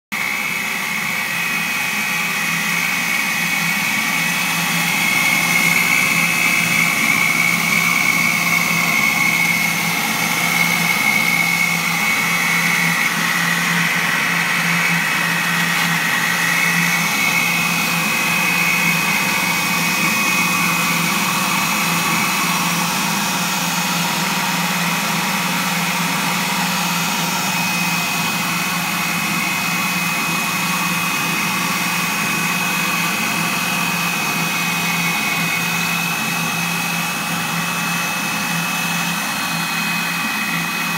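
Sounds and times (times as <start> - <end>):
machine drone with high whine: 0.2 - 40.9.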